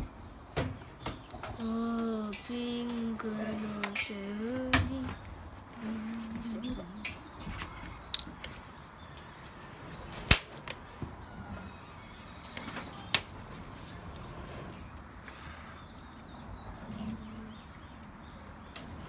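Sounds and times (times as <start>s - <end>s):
firewood popping and cracking: 0.0s - 19.0s
low rustle of fire: 0.0s - 19.0s.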